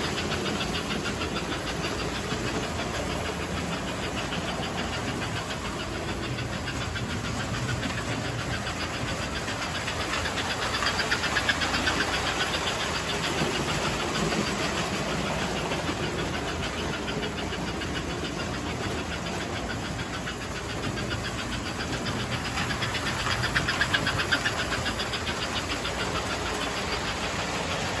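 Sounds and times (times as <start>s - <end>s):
model train motors whirring: 0.0s - 28.0s
wheels clicking over track: 0.0s - 28.0s.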